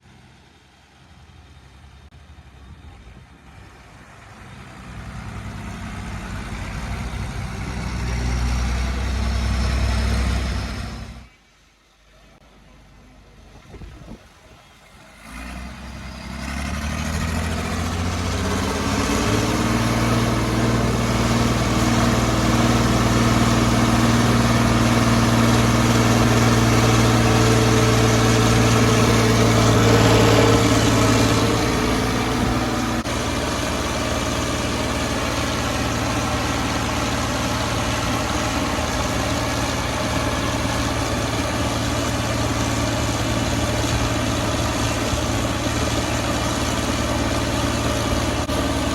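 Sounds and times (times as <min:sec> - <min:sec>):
tractor engine running: 0:00.0 - 0:11.3, 0:12.4 - 0:48.9.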